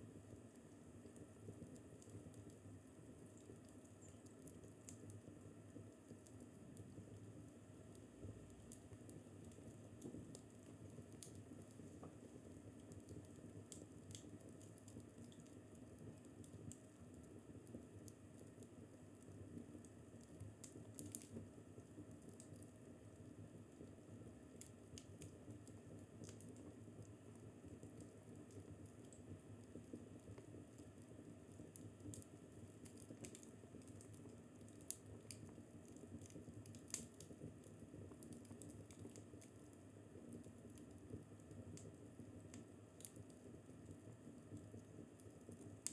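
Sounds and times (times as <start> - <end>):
wood fire crackling: 0.0 - 45.9
fire popping and snapping: 0.5 - 45.9.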